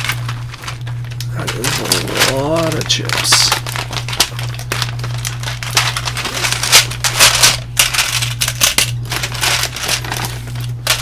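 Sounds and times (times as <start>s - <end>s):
plastic bag crinkling: 0.0s - 11.0s
steady low hum: 0.0s - 11.0s.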